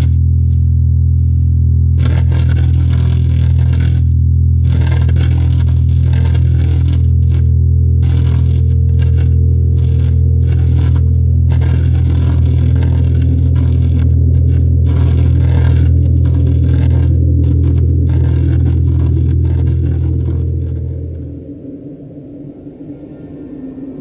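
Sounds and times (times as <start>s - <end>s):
deep drone: 0.0s - 24.0s
harsh distorted crackling noise: 0.0s - 24.0s.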